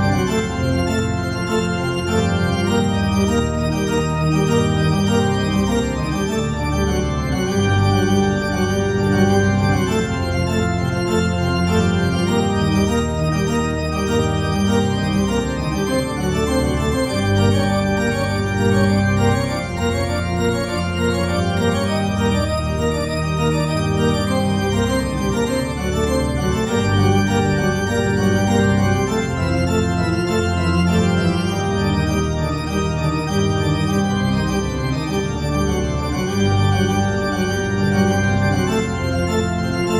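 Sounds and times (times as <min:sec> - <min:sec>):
organ playing slow chords: 0:00.0 - 0:39.9.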